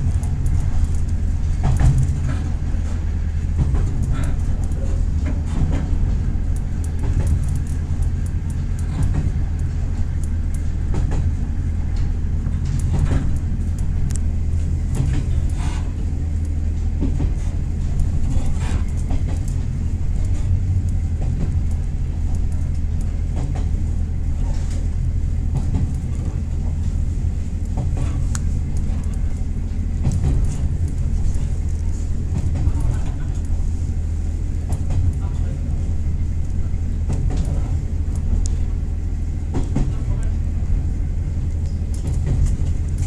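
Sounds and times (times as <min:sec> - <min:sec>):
diesel railcar drone: 0:00.0 - 0:43.0
wheels clicking on rails: 0:00.0 - 0:43.0.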